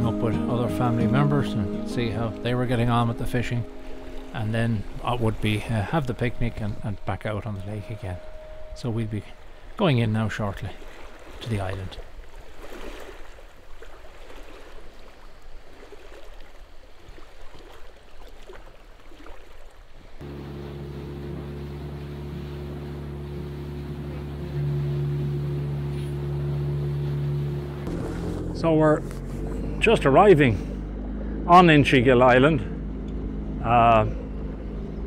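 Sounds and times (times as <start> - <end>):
outboard motor running: 0.0 - 15.3, 20.2 - 35.0
water noise: 0.0 - 35.0
wind: 0.0 - 35.0.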